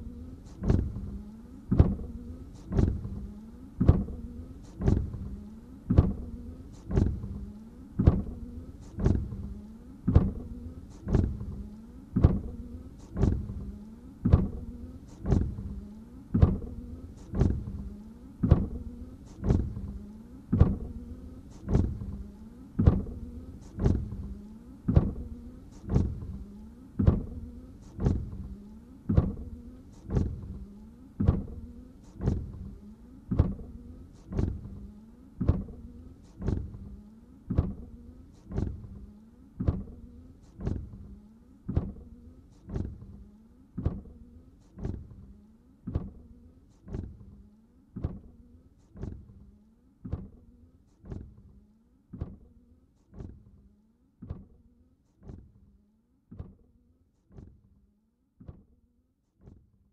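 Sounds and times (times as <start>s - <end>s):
windshield wiper sweeping dry glass: 0.0s - 51.5s, 52.2s - 53.5s.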